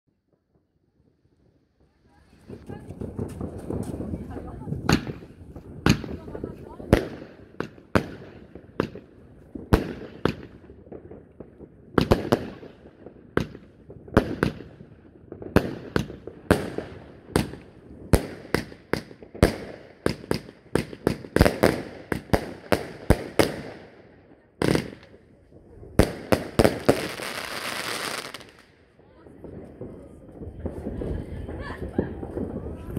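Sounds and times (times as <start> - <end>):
fireworks bangs: 0.2 - 32.9
fireworks crackle: 0.2 - 32.9.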